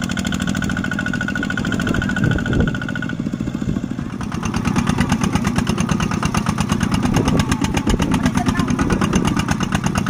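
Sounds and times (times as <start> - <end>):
diesel engine running: 0.0 - 10.0
wheels churning in mud: 0.0 - 10.0.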